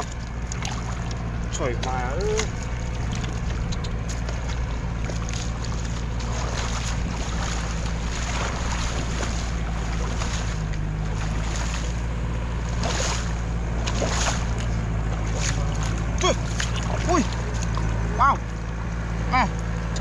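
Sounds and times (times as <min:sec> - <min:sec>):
shallow water splashing: 0:00.0 - 0:18.8
steady low rumble: 0:00.0 - 0:20.0.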